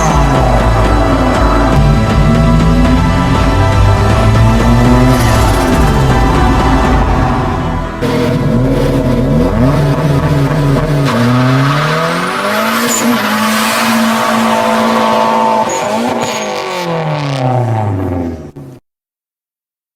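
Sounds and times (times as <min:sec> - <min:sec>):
car engine revving: 0:00.0 - 0:18.8.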